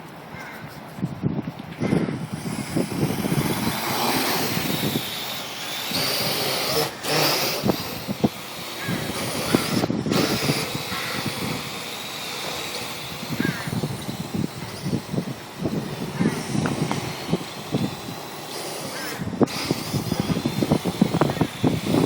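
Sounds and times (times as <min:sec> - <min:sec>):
wind buffeting microphone: 0:00.0 - 0:22.0
drone propellers whining: 0:01.7 - 0:22.0.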